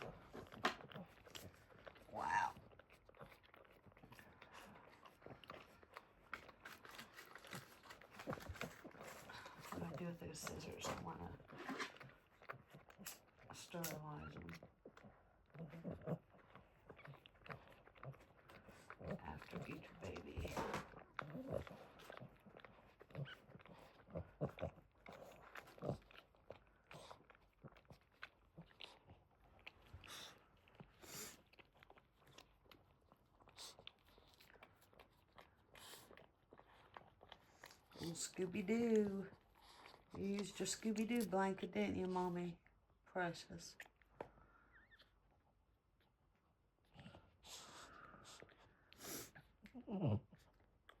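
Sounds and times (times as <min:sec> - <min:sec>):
dog licking and chewing: 0:00.0 - 0:51.0.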